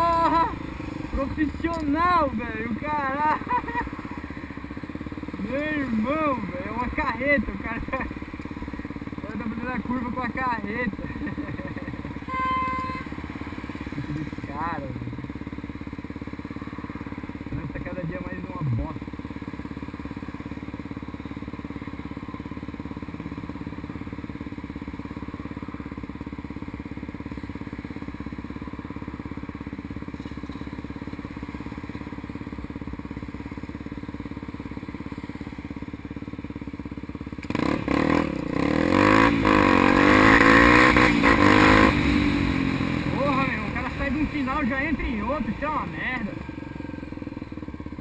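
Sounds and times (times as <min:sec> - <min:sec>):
motorcycle engine idling and revving: 0:00.0 - 0:48.0.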